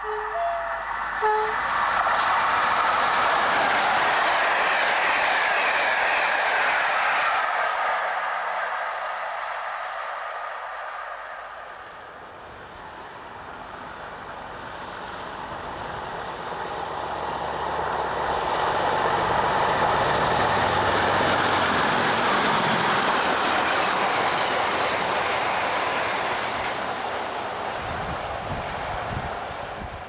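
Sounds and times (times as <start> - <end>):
diesel locomotives passing: 0.0 - 30.0.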